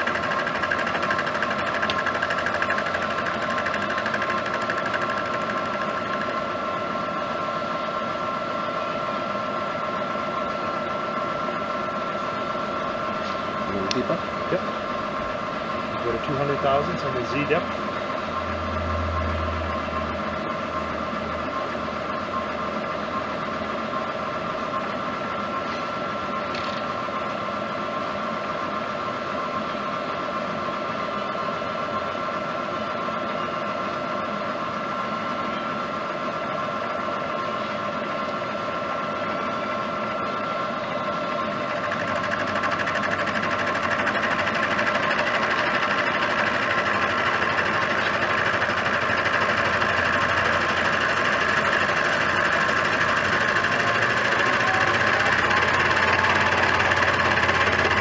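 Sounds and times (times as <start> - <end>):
milling machine whining: 0.0 - 58.0.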